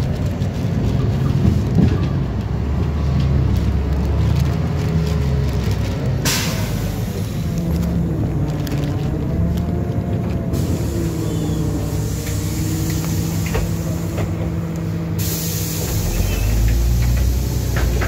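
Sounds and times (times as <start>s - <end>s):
bus engine drone with whine: 0.0s - 18.0s.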